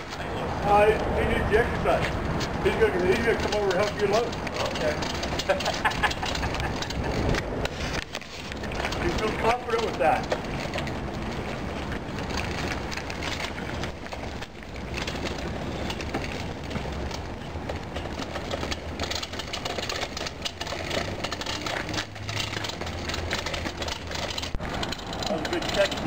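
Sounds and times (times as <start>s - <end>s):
caster wheels rattling on asphalt: 0.0s - 26.0s.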